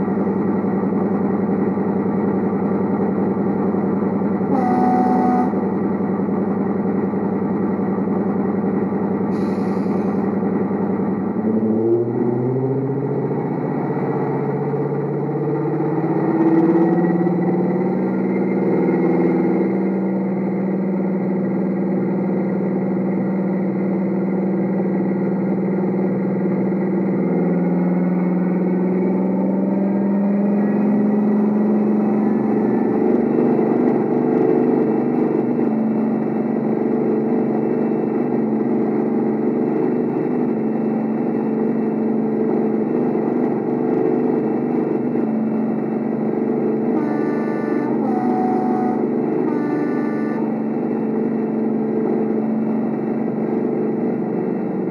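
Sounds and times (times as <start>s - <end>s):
diesel engine through small speaker: 0.0s - 54.9s.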